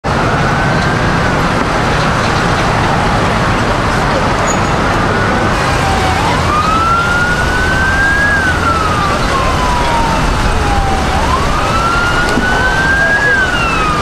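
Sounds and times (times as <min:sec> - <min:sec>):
emergency siren wailing: 0:00.0 - 0:14.0
steady loud roar: 0:00.0 - 0:14.0.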